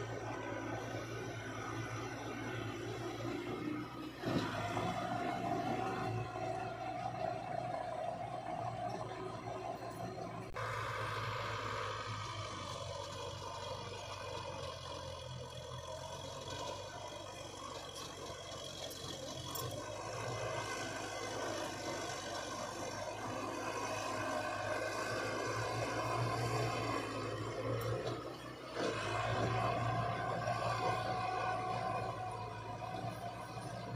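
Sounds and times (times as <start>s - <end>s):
heavy diesel machinery running: 0.0s - 33.9s.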